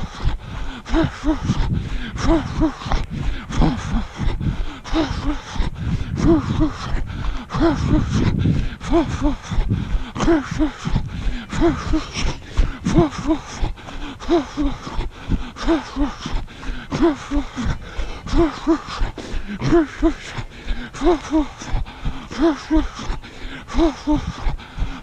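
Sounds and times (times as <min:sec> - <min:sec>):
person breathing rhythmically: 0:00.0 - 0:25.0.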